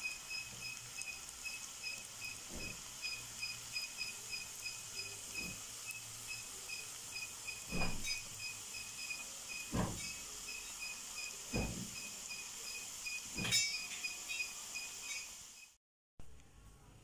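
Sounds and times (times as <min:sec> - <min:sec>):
dough sizzling in hot oil: 0:00.0 - 0:15.8.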